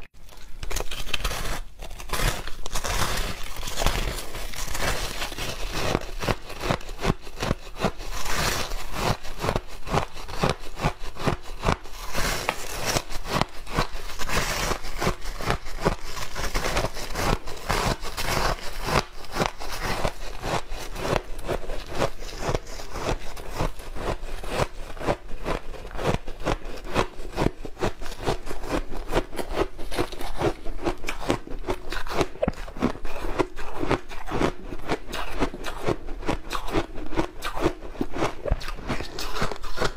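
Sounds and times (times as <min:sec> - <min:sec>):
ice being chewed: 0:00.2 - 0:39.9.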